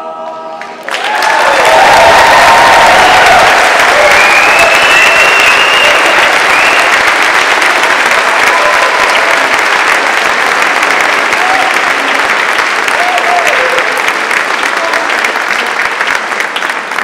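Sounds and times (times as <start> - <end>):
crowd applauding: 0.3 - 17.0.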